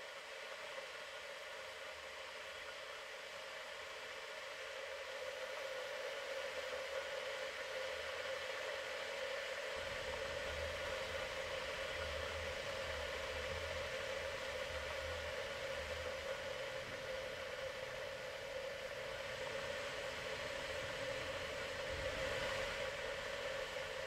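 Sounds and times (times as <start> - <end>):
constant hum: 0.0 - 24.0
steady hiss: 0.0 - 24.0.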